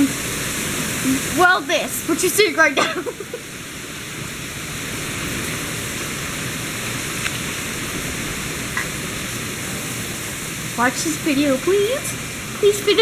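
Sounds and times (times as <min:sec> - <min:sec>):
heavy rain and wind: 0:00.0 - 0:13.0.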